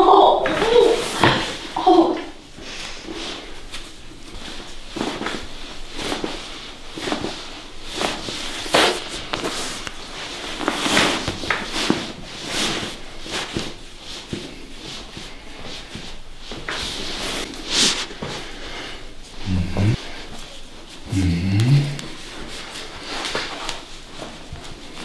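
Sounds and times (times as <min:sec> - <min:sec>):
hands rubbing on clothing: 0:02.7 - 0:25.0.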